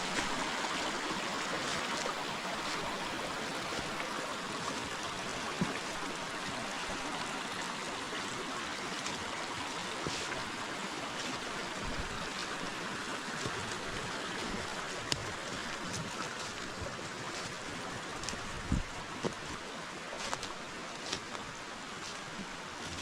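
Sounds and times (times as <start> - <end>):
river flowing over stones: 0.0 - 23.0.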